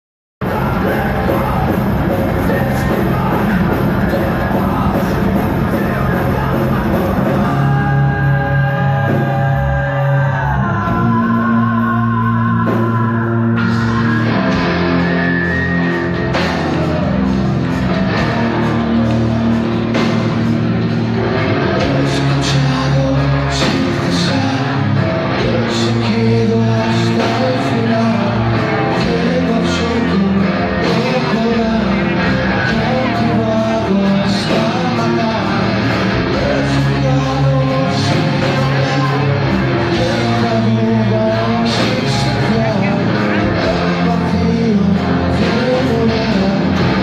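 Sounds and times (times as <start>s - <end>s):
distorted electric guitars: 0.4s - 47.0s
drums: 0.4s - 47.0s
person singing: 0.4s - 47.0s.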